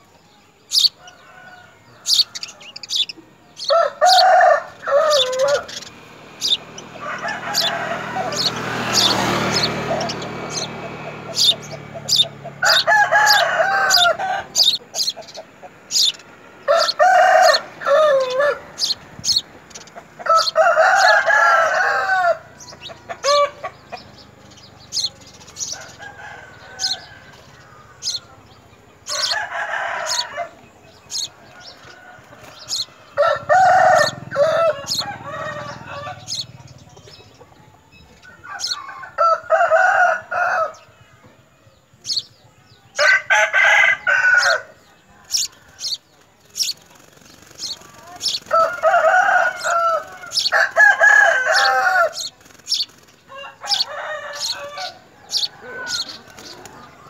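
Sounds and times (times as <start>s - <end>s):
chickens calling: 0.0s - 57.0s.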